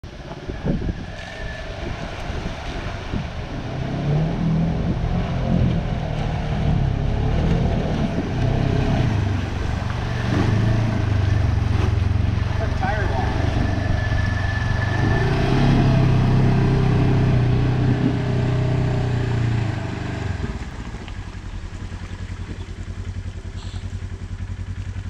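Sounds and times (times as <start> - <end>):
utility vehicle engine running: 0.0 - 25.0.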